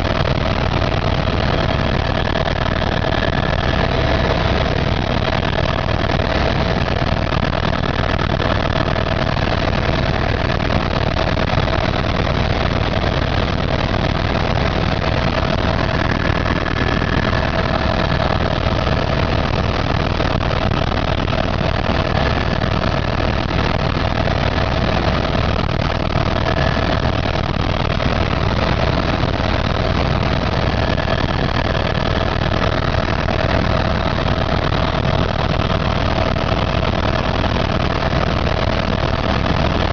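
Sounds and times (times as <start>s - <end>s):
helicopter engine and rotors: 0.0s - 39.9s
steady whine: 0.0s - 39.9s.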